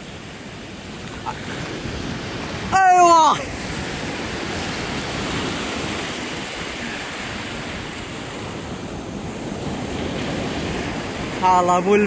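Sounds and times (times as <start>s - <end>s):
sea surf washing ashore: 0.0s - 12.0s
wind on microphone: 0.0s - 12.0s.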